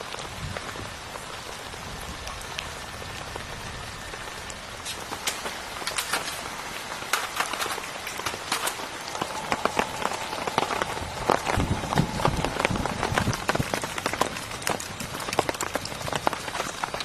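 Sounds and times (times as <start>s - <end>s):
heavy rain pattering: 0.0s - 17.0s.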